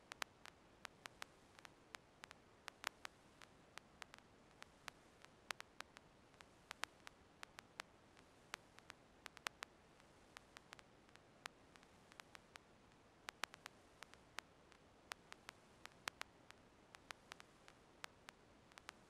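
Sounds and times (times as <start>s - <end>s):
faint hiss: 0.0s - 19.0s
sharp static clicks: 0.0s - 19.0s.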